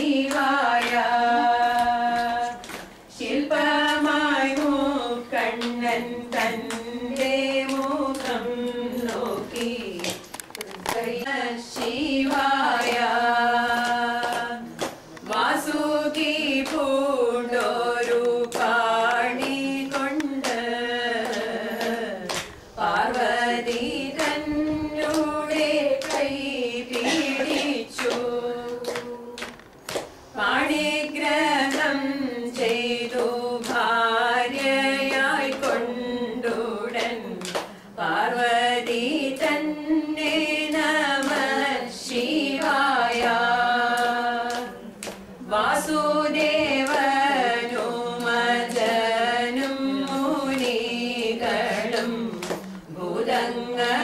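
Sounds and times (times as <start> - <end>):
hand claps: 0.0 - 54.0
women singing together: 0.0 - 54.0.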